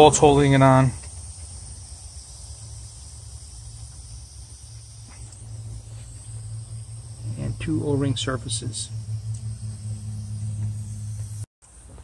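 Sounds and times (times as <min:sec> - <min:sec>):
high-pitched hiss: 0:00.0 - 0:12.0
low background hum: 0:00.0 - 0:12.0.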